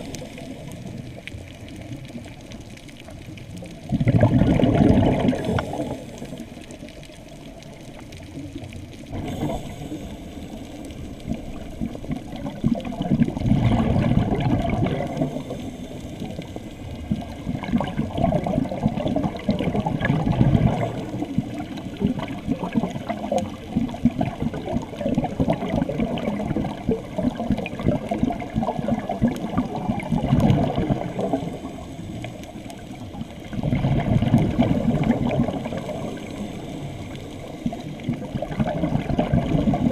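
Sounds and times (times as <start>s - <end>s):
exhaled bubbles gushing: 0.0s - 39.9s
steady underwater bubbling: 0.0s - 39.9s.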